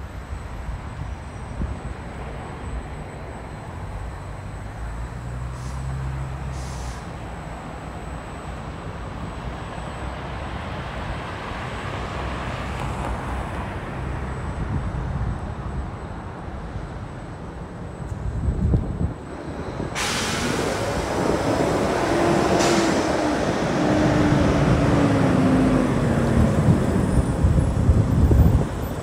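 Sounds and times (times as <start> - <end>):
vehicle engine running low: 0.0 - 29.0.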